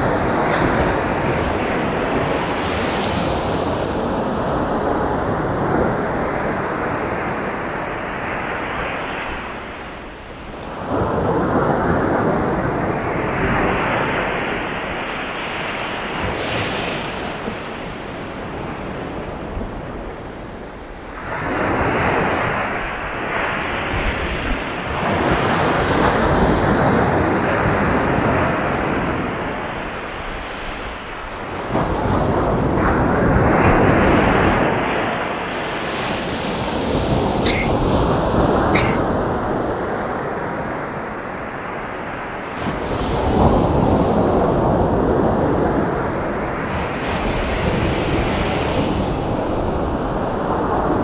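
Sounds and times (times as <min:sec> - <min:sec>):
surf washing on beach: 0:00.0 - 0:51.0.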